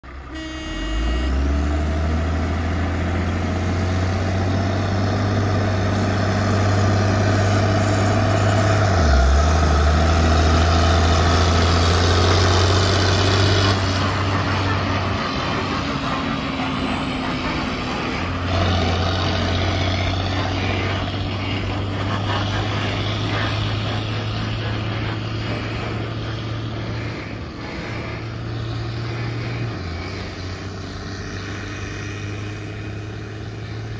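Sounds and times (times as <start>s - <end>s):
tractor diesel engine passing: 0.0s - 33.9s.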